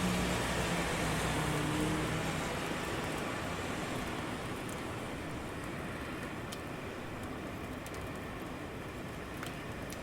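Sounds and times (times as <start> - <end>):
low rumble of city traffic: 0.0 - 10.0
sharp water drips: 0.0 - 10.0
steady rain falling: 0.0 - 10.0.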